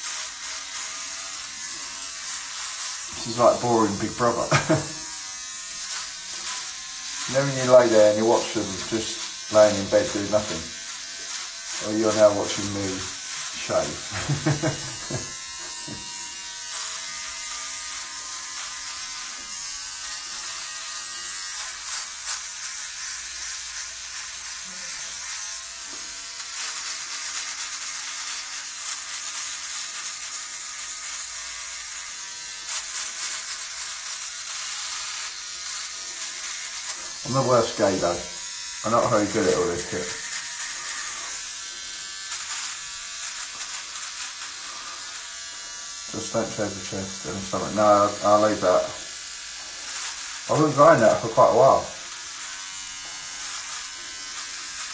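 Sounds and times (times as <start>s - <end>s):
hair trimmer buzzing: 0.0s - 54.9s
trimmer rasping through hair: 0.0s - 54.9s.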